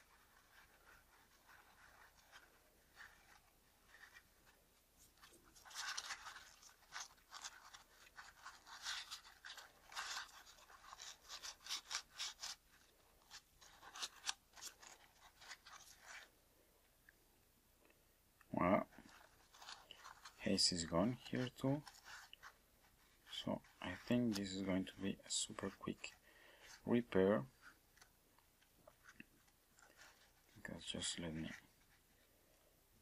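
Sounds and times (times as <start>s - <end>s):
cleaning wipe rustling: 0.0s - 16.4s, 18.7s - 32.6s.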